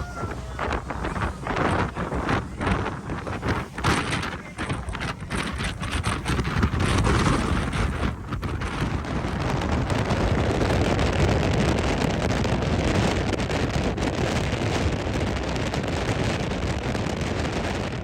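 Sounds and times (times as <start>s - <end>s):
steady low rumble: 0.0s - 17.7s
wind buffeting microphone: 0.0s - 18.0s.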